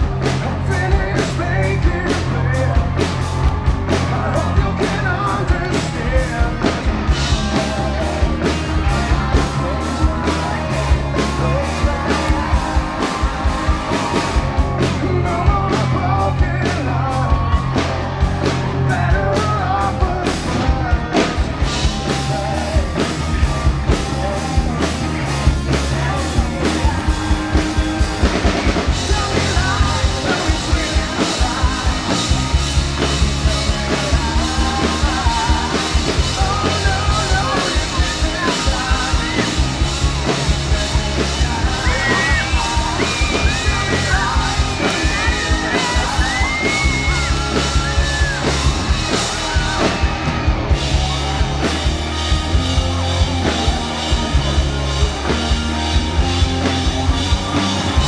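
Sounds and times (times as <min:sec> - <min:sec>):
man singing: 0:00.0 - 0:51.6
drum kit beating: 0:00.0 - 0:58.0
electric guitars: 0:00.0 - 0:58.0.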